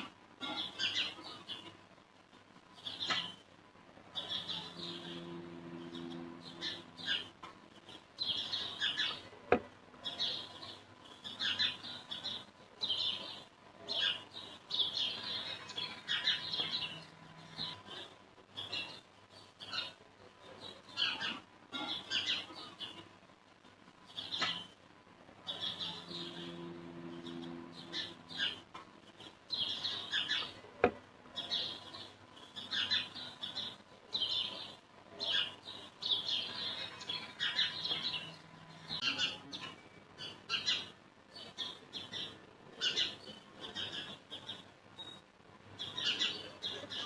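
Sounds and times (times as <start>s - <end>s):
birds chirping: 0.0s - 1.8s, 2.7s - 23.1s, 24.0s - 47.0s
low steady hum: 0.0s - 46.9s.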